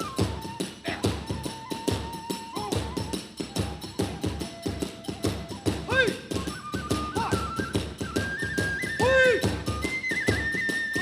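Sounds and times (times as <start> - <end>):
drum and hand-cymbal beat: 0.0 - 11.0
transverse flute long notes: 0.0 - 11.0.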